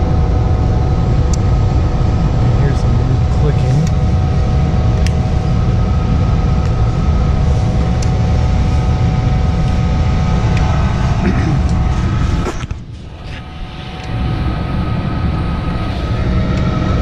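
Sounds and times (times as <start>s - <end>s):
gas furnace low rumble: 0.0s - 17.0s
motor hum: 0.0s - 17.0s.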